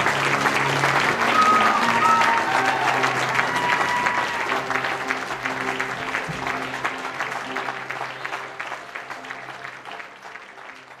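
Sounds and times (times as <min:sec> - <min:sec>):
audience applauding: 0:00.0 - 0:11.0
low instrumental music: 0:00.0 - 0:11.0.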